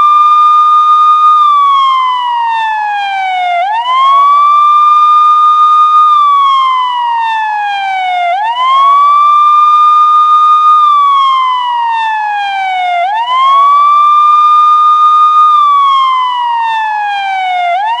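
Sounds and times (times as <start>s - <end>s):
police siren wailing: 0.0s - 18.0s.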